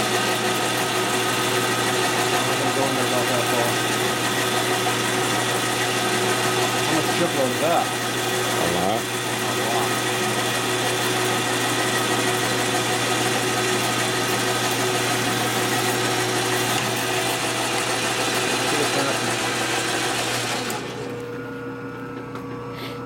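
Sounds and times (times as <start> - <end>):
milling machine cutting metal: 0.0 - 21.3
machine hum: 2.5 - 23.0.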